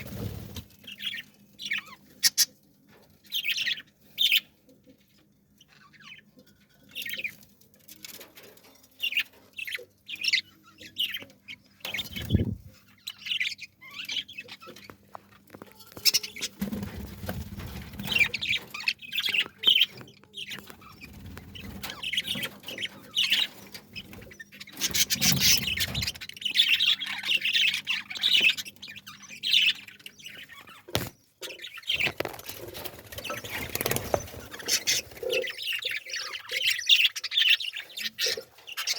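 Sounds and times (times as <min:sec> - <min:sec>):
small birds chirping and squawking: 0:00.0 - 0:38.9.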